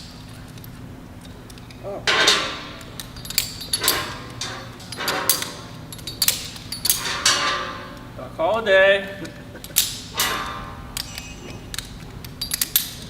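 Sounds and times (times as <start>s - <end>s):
carabiners clicking and clanking: 0.0s - 13.0s.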